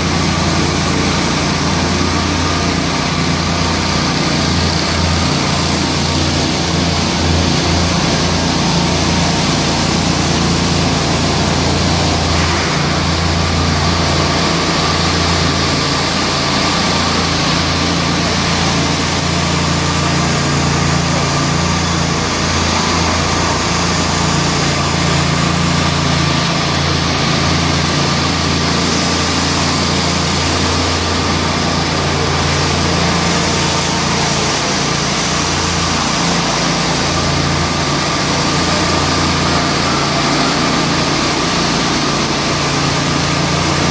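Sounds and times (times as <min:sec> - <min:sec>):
mixer truck engine running: 0:00.0 - 0:43.9
power trowel engines running: 0:00.0 - 0:43.9.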